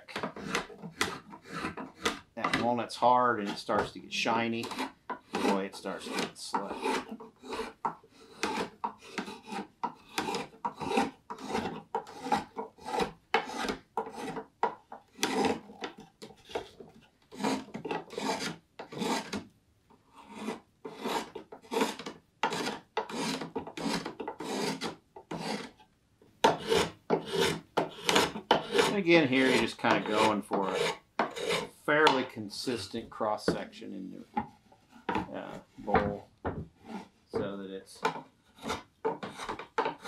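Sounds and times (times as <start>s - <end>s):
spokeshave scraping wood: 0.0s - 19.4s, 20.1s - 25.8s, 26.4s - 40.0s.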